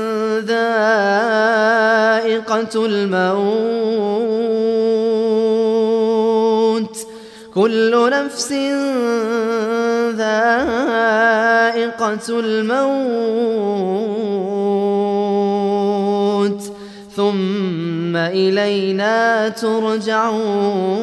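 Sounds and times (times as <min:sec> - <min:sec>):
man chanting melodically: 0:00.0 - 0:21.0.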